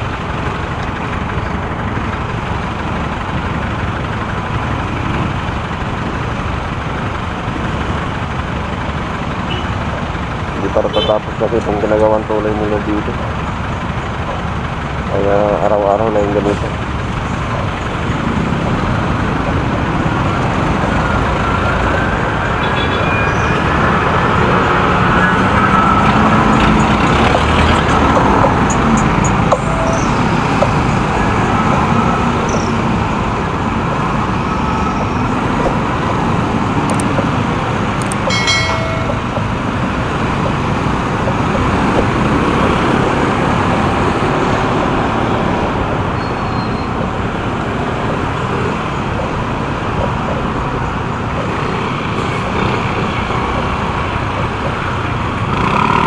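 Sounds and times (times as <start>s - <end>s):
motorcycle engine and road noise: 0.0s - 56.0s
surrounding traffic: 0.0s - 56.0s.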